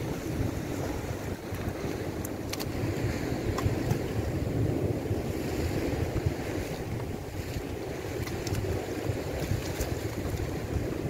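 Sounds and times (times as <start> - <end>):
surf on rocks: 0.0 - 11.0
wind buffeting microphone: 0.0 - 11.0.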